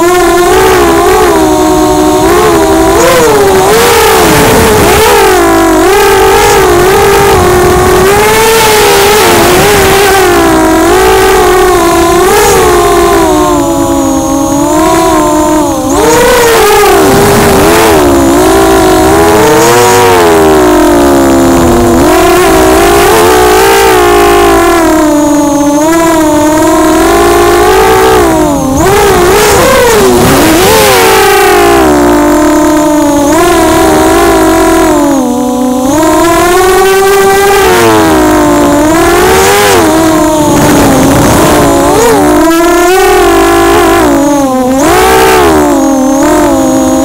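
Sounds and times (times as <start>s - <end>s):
quadcopter motors whining: 0.0s - 47.0s.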